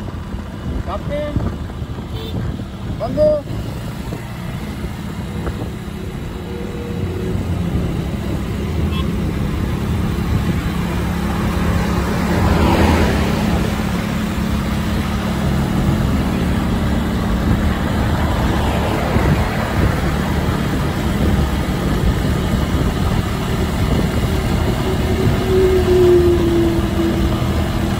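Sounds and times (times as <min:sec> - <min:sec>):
motorcycle engines running: 0:00.0 - 0:27.9
wind rushing over microphone: 0:00.0 - 0:27.9.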